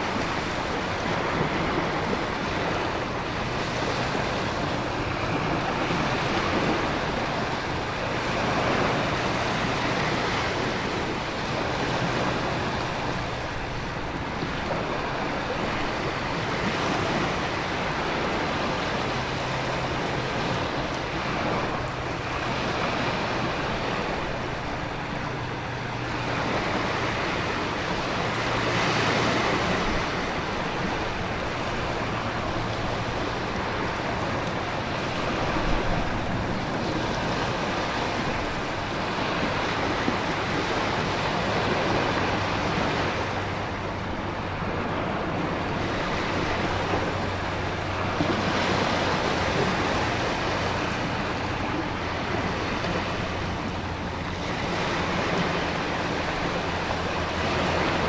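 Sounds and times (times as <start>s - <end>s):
ocean surf breaking: 0.0s - 58.0s
rushing wind: 0.0s - 58.0s.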